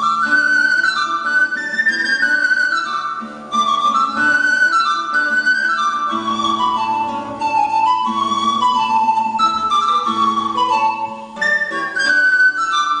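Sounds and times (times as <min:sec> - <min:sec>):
classical guitar: 0:00.0 - 0:13.0
pan flute melody: 0:00.0 - 0:13.0.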